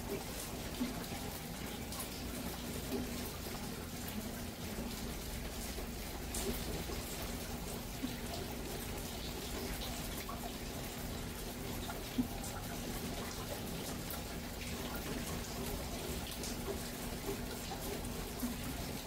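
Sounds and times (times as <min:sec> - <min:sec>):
sharp drips: 0:00.0 - 0:19.0
steady rain falling: 0:00.0 - 0:19.0.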